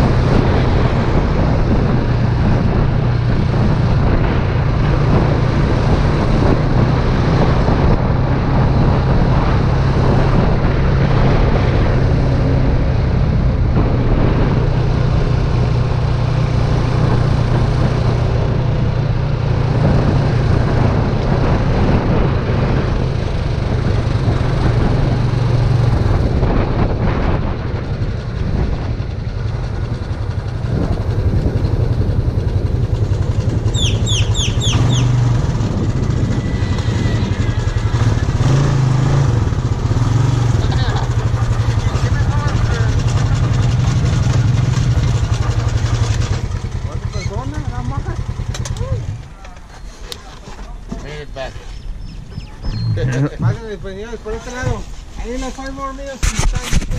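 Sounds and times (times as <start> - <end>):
atv engine running: 0.0 - 56.9
wind and road noise: 0.0 - 56.9.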